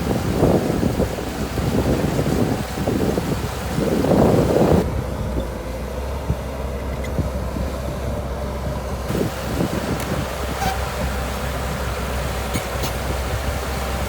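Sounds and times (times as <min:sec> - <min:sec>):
bulldozer engine running: 0:00.0 - 0:14.0
wind buffeting microphone: 0:00.0 - 0:14.0.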